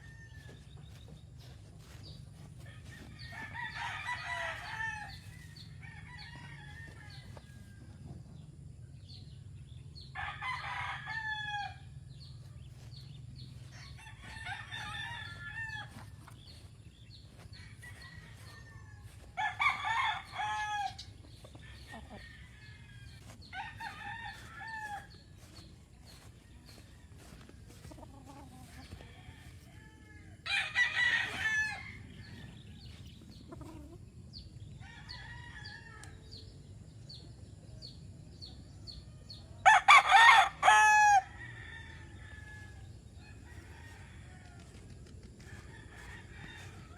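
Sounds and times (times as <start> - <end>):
roosters crowing: 0.0 - 8.3, 10.0 - 33.9, 34.8 - 36.4, 39.3 - 46.9.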